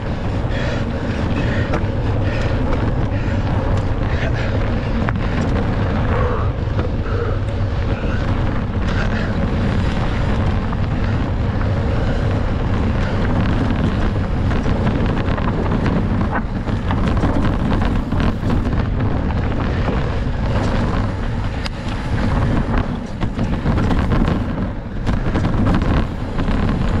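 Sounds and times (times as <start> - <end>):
bike knocks and rattles: 0.0 - 27.0
bike tyre noise: 0.0 - 27.0
wind buffeting microphone: 0.0 - 27.0.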